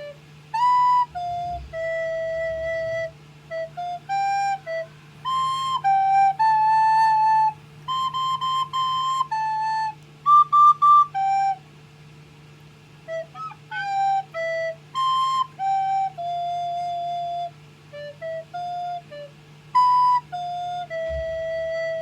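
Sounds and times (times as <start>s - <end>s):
recorder melody: 0.0s - 11.6s, 13.0s - 22.0s.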